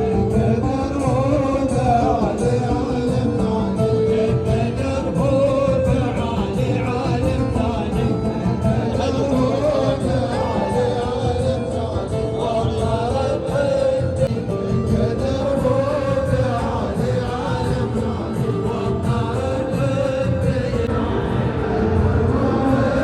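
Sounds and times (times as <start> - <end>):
group of voices singing: 0.0 - 23.0
sharp percussive beats: 0.0 - 23.0.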